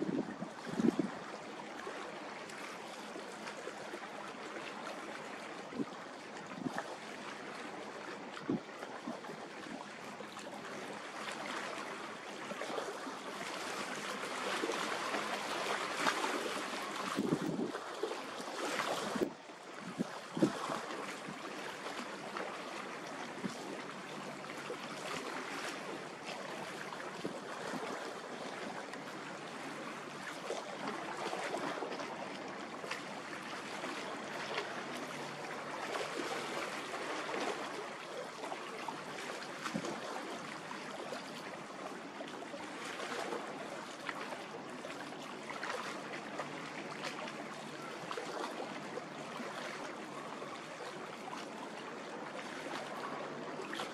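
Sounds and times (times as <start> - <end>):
seawater lapping and splashing: 0.0 - 53.9.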